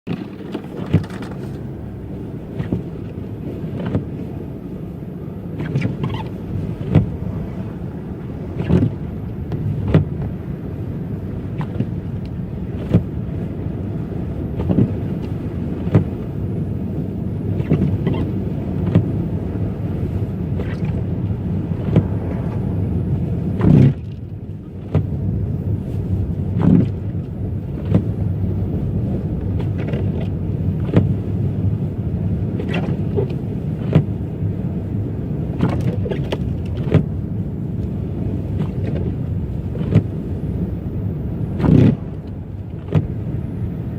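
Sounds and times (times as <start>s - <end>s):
car road rumble: 0.0s - 43.9s.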